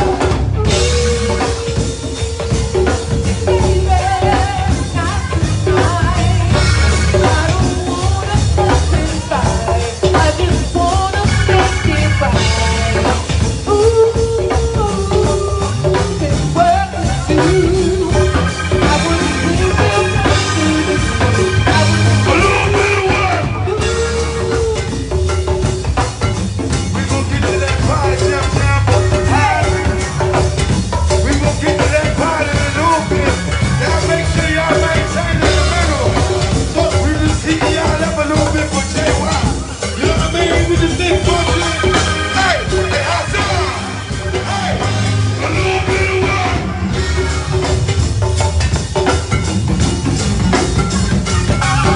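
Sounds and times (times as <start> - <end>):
person singing: 0.0 - 26.0, 26.9 - 47.8
bass: 0.0 - 51.9
drum and percussion groove: 0.0 - 51.9
live band playing: 0.0 - 51.9.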